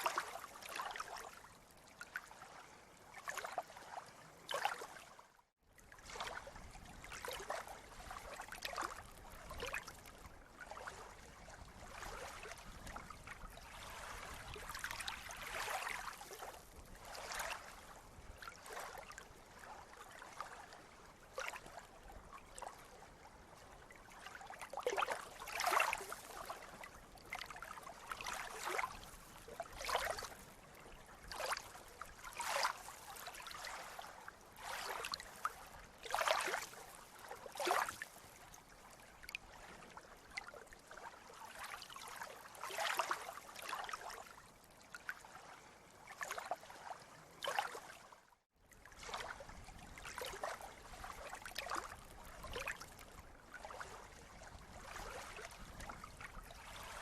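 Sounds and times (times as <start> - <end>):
small waves lapping and splashing: 0.0 - 57.0.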